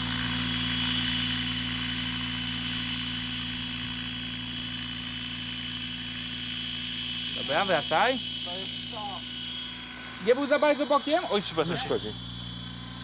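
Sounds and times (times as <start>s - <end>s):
model helicopter high whine: 0.0s - 13.0s.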